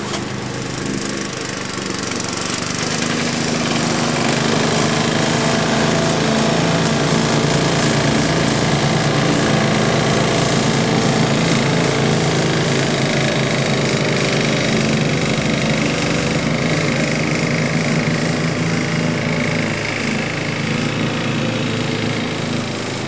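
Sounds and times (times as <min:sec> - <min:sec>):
lawnmower engine running: 0:00.0 - 0:23.0.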